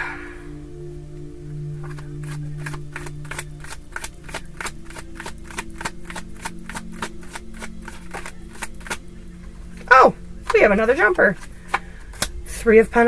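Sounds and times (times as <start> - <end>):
cards being shuffled: 1.8 - 12.4.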